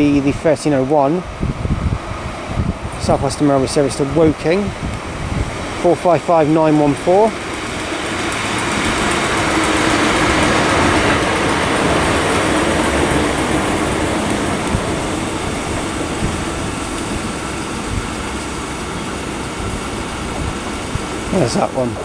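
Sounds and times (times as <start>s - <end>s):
electric train humming: 0.0s - 22.0s
wheels clicking over rail joints: 0.0s - 22.0s.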